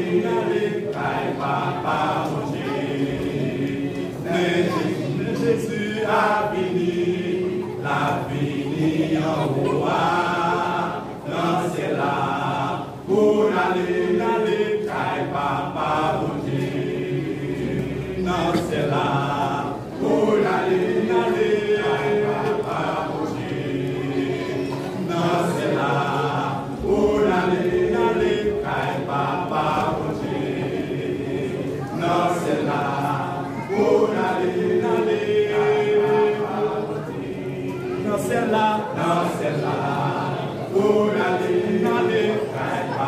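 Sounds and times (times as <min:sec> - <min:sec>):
men's vocal group singing: 0:00.0 - 0:43.0.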